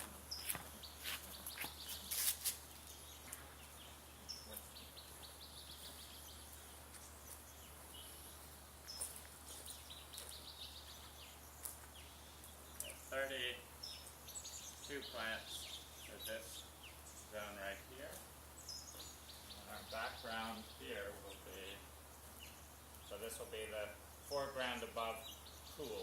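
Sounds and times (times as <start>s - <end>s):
high bird chirps: 0.0s - 21.8s
faint outdoor ambience: 0.0s - 26.0s.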